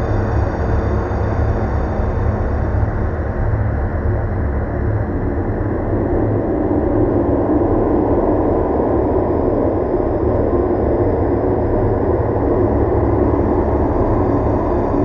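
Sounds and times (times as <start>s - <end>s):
dark ambient drone music: 0.0s - 15.0s.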